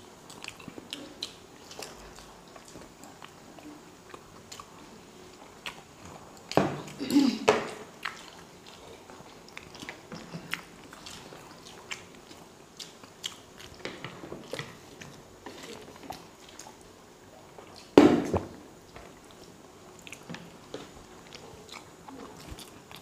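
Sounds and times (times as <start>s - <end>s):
soft wet chewing: 0.0s - 23.0s.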